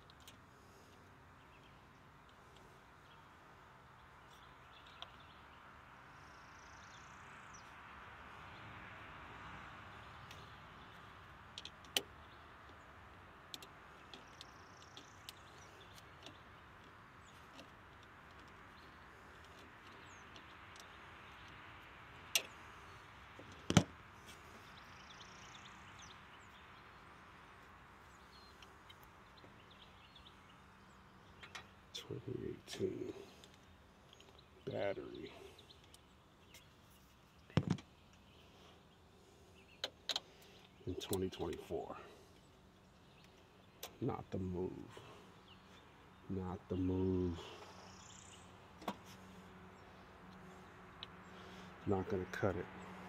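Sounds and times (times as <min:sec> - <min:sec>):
birds chirping faintly: 0:00.0 - 0:53.0.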